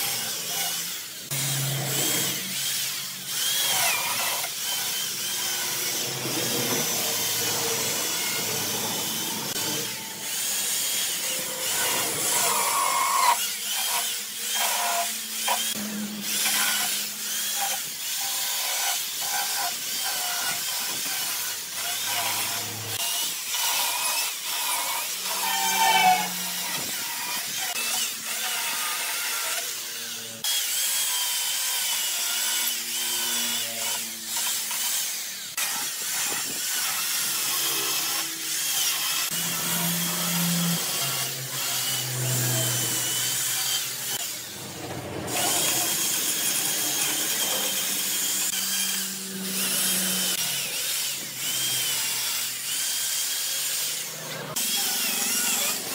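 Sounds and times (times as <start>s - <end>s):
electric chainsaw cutting wood: 0.0s - 55.9s.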